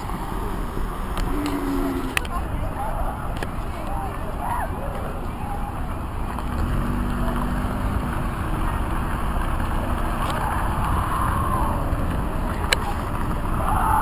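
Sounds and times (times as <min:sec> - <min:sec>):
car engine rumbling: 0:00.0 - 0:04.0, 0:04.8 - 0:13.8.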